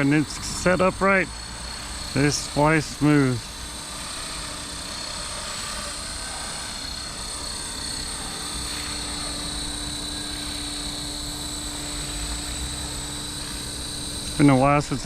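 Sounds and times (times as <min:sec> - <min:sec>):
rc helicopter motor whine: 0:00.0 - 0:15.0.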